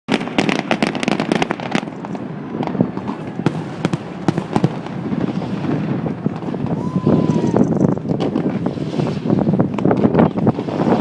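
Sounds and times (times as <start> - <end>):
fireworks bangs: 0.1 - 11.0
fireworks cracking: 0.1 - 11.0
rumble of fireworks display: 0.1 - 11.0.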